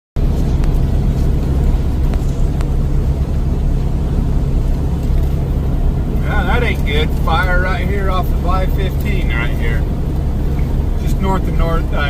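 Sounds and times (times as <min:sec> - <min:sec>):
car road and engine rumble: 0:00.2 - 0:12.0.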